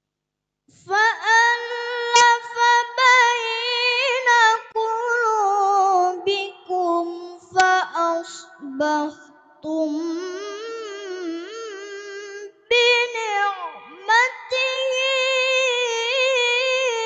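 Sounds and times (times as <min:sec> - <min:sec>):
boy reciting melodically: 0:00.8 - 0:17.0.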